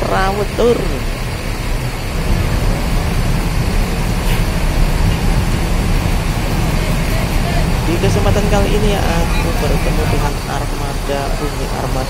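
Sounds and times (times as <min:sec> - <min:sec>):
busy bus terminal noise: 0:00.0 - 0:12.0
diesel bus engine idling: 0:00.0 - 0:12.0.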